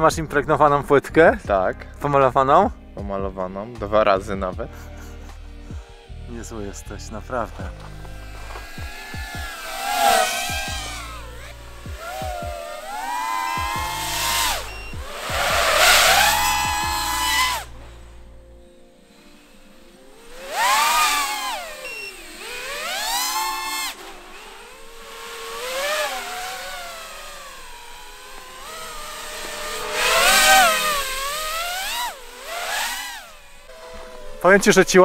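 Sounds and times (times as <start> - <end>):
drone motors whining: 4.3 - 35.0.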